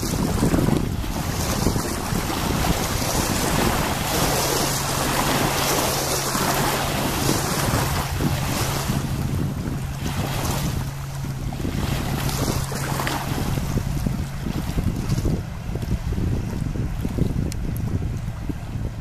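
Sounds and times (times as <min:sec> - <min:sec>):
boat engine drone: 0:00.0 - 0:19.0
wind buffeting microphone: 0:00.0 - 0:19.0.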